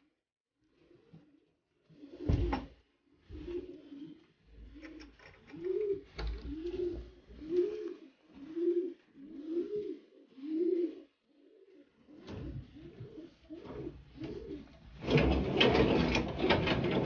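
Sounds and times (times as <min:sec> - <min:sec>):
pigeons cooing: 0:01.8 - 0:17.0.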